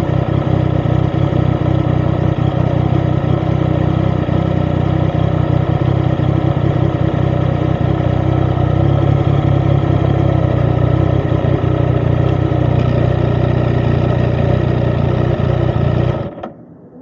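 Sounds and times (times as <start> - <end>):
motorcycle engine idling: 0.0 - 16.5.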